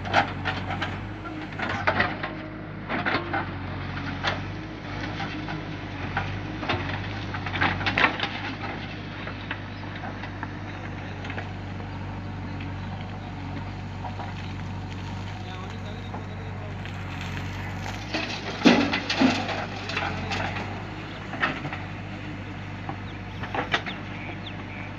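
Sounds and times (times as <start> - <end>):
rocks and earth clattering: 0.0 - 24.7
diesel engines idling: 0.0 - 24.9.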